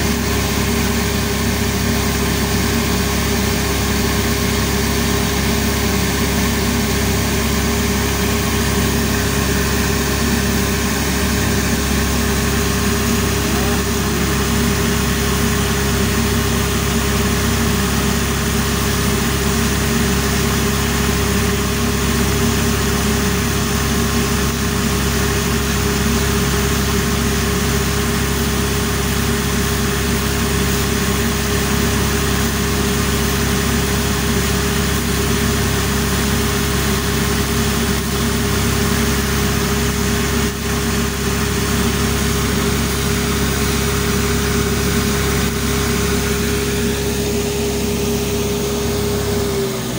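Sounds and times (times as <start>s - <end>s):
cutting machine motor humming: 0.0s - 49.9s.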